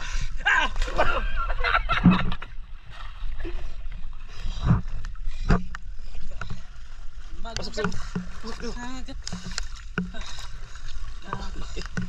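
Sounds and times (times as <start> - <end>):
low rumble of moving water: 0.0 - 12.0
sea water splashing: 0.0 - 12.0.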